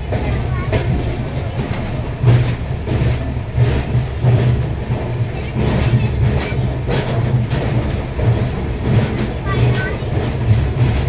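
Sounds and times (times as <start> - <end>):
train wheels rumbling on track: 0.0 - 11.0
wheels clacking over rail joints: 0.0 - 11.0.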